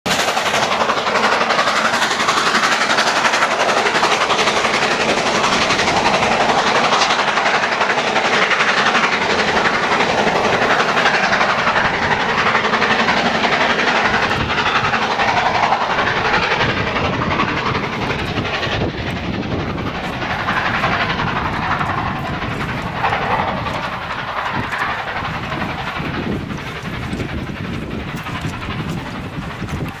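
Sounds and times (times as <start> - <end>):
train wheels clattering on rails: 0.1 - 30.0.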